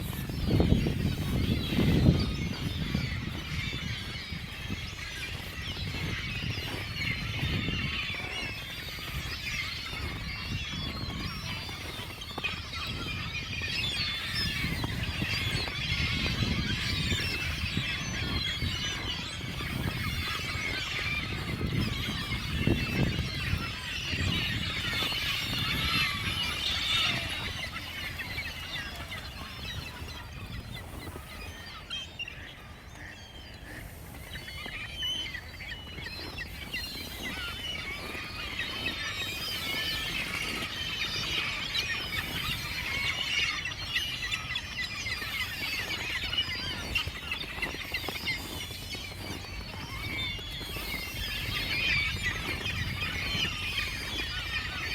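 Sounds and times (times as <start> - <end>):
ducks: 0.0 - 54.9
seagulls calling: 0.0 - 54.9.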